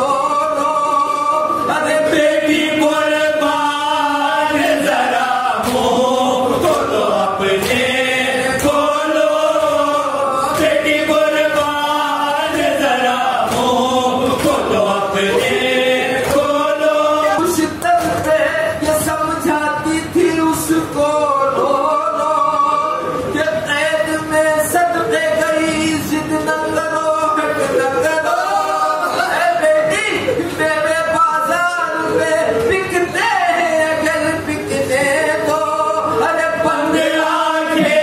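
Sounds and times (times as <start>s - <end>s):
men chanting together: 0.0s - 38.0s.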